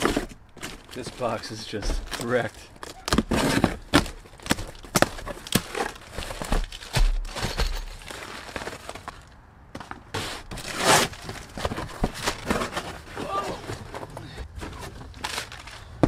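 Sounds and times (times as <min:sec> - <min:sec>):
cardboard rustling: 0:00.0 - 0:16.0
plastic packaging rustling and knocking: 0:00.0 - 0:16.0.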